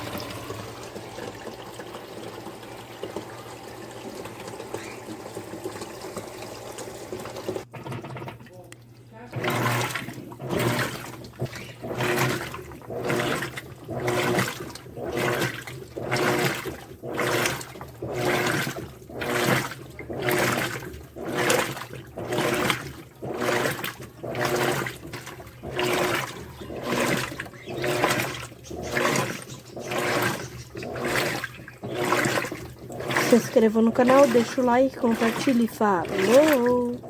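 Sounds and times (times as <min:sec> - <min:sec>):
washing machine motor hum: 0:00.0 - 0:37.0
washing machine water swishing: 0:00.0 - 0:37.0.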